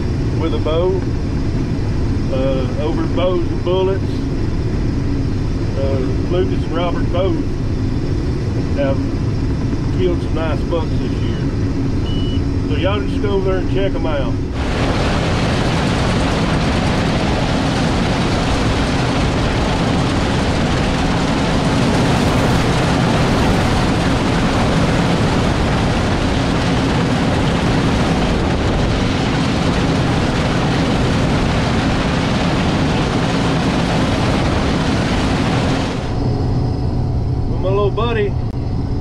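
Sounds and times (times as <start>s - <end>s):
combine harvester drone: 0.0s - 39.0s.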